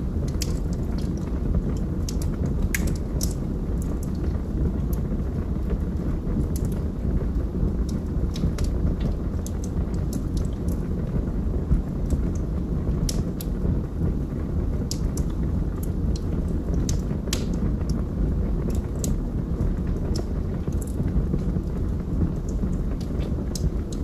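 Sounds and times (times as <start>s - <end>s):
log fire rumbling: 0.0s - 24.0s
logs crackling and popping: 0.0s - 24.0s.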